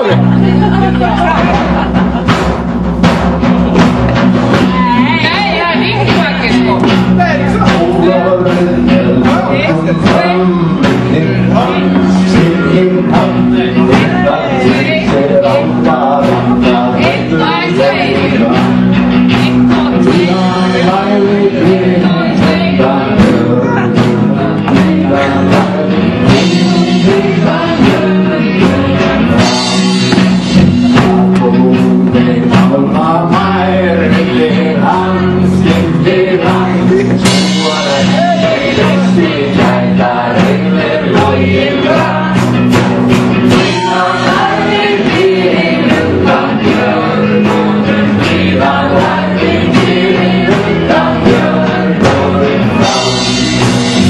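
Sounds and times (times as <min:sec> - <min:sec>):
man singing: 0:00.0 - 0:01.9, 0:04.6 - 0:54.0
live folk-rock band: 0:00.0 - 0:54.0.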